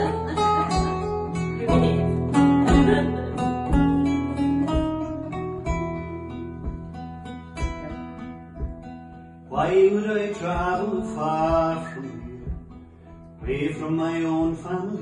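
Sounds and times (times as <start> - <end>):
guitars playing folk music: 0.0 - 15.0.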